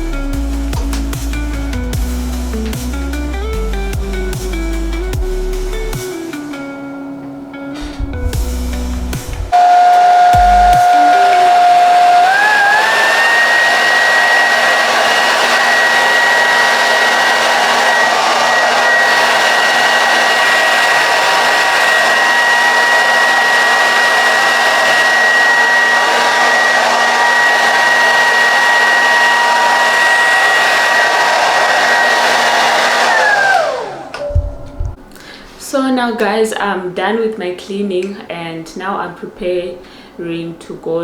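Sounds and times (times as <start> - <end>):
hair dryer blowing: 0.0 - 6.6, 7.8 - 35.1.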